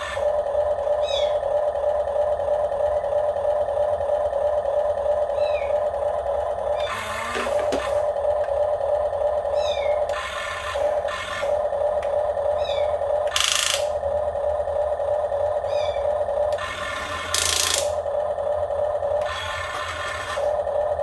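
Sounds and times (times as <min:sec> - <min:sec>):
toy excavator motor whining: 0:00.0 - 0:21.0.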